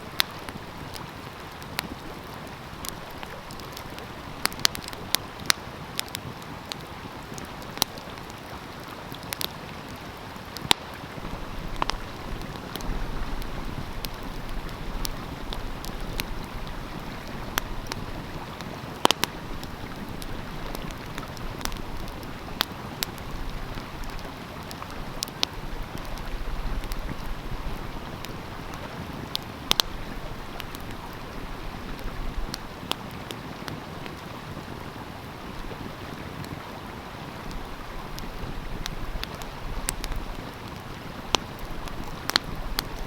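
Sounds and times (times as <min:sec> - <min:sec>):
flowing stream: 0:00.0 - 0:43.0
wood fire crackling and popping: 0:00.0 - 0:43.0.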